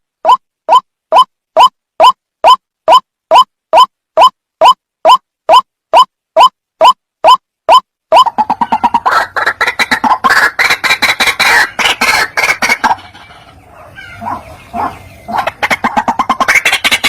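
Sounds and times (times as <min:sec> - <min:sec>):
bird calling harsh notes: 0:00.2 - 0:17.0.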